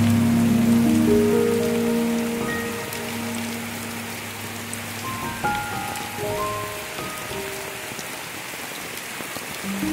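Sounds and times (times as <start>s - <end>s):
soft sustained music notes: 0.0s - 8.0s
heavy rain on a street: 0.0s - 9.9s.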